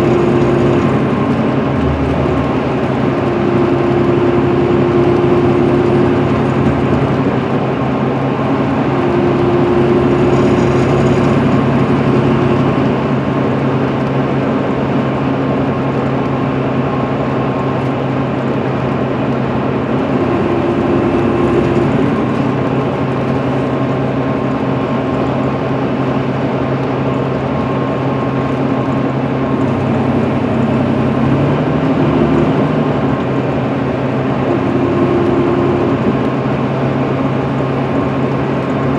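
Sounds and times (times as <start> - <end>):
diesel engine drone: 0.0 - 38.9
tyre and road noise: 0.0 - 38.9.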